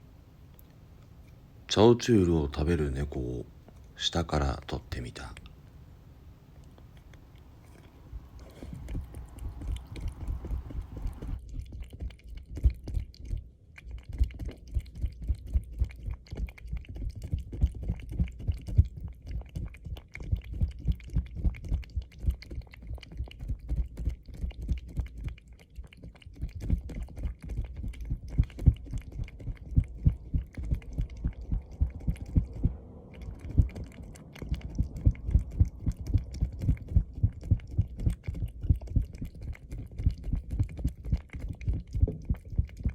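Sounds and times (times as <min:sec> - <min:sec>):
cat licking: 0:06.5 - 0:42.9.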